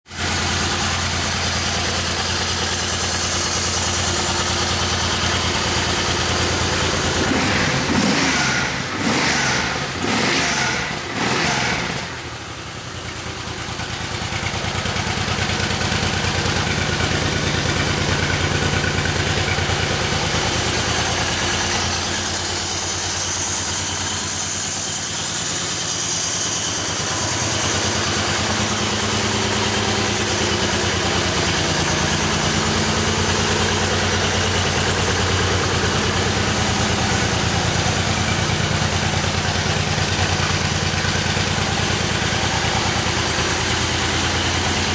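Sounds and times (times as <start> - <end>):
motorcycle engine idling: 0.1 - 44.9.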